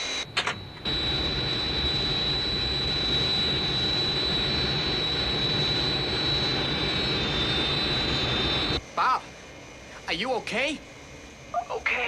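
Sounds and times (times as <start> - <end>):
high engine whine: 0.0 - 12.0
jet airliner engine rushing: 0.0 - 12.0.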